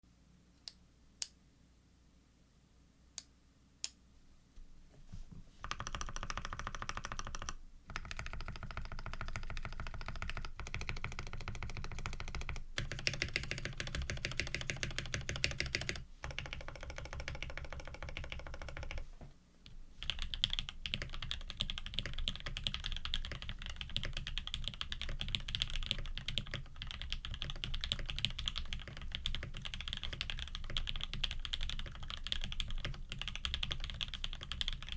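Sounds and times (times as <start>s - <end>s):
mechanical keyboard typing: 5.6s - 19.0s, 20.0s - 34.9s.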